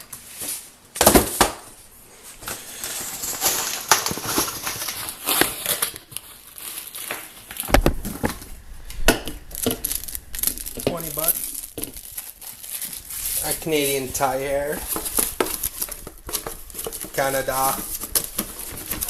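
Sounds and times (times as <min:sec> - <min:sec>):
packaging crinkling and rustling: 0:02.2 - 0:19.0.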